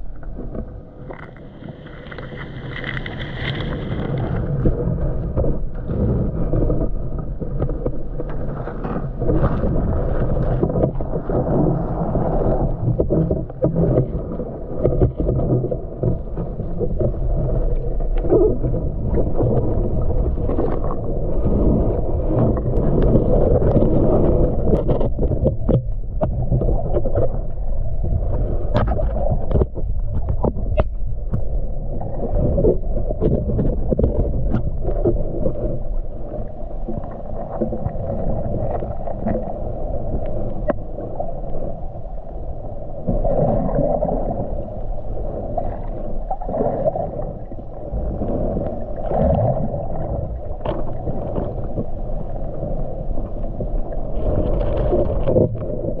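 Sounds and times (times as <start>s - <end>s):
small underwater clicks and gurgles: 0.0s - 56.0s
underwater rumble of moving water: 0.0s - 56.0s.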